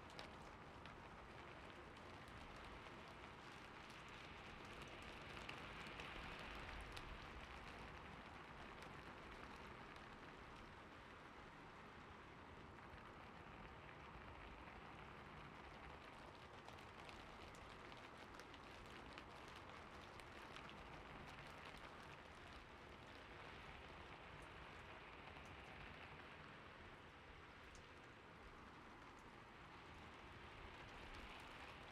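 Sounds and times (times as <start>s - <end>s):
soft steady rain: 0.0s - 31.9s.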